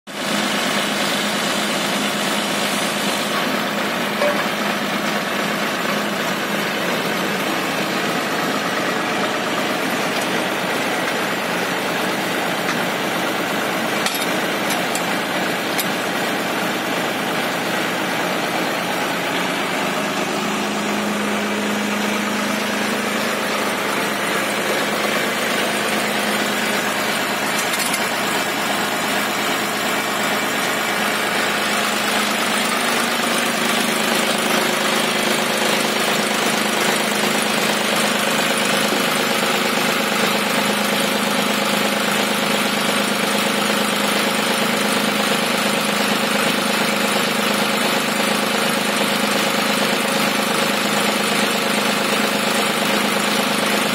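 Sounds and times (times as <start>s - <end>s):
tractor diesel engine idling: 0.1s - 53.9s.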